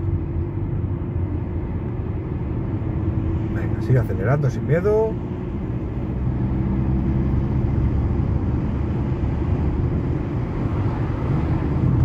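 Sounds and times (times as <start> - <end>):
road noise inside car: 0.0 - 12.0.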